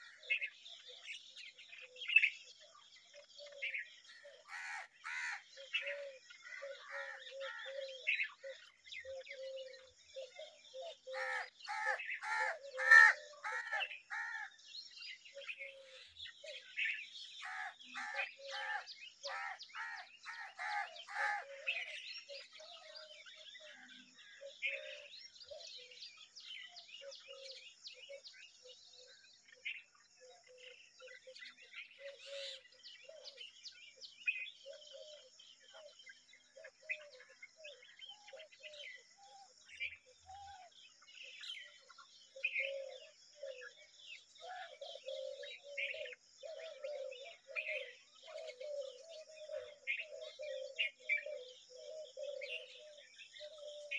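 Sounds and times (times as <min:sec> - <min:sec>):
birds calling: 0:00.0 - 0:14.5, 0:15.1 - 0:27.5, 0:34.3 - 0:53.9
bird chirps: 0:00.0 - 0:53.9.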